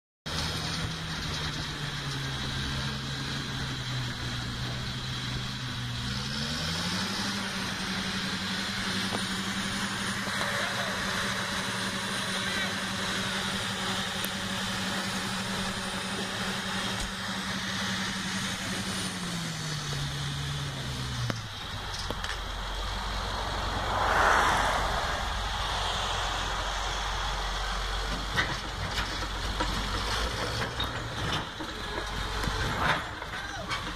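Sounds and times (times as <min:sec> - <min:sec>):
heavy diesel engine revving: 0:00.3 - 0:33.9.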